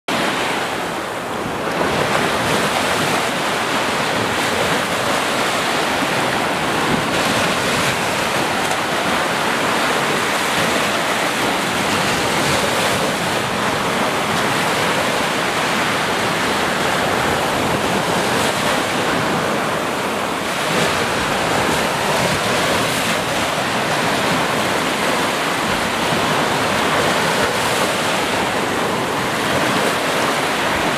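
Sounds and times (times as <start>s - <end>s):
small surf washing up beach: 0.1s - 30.9s.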